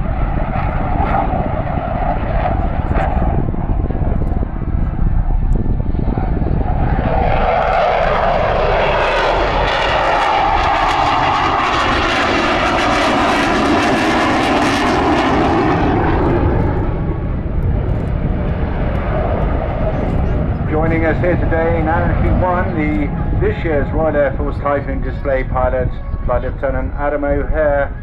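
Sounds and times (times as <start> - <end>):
fighter jet flying past: 0.0 - 28.0.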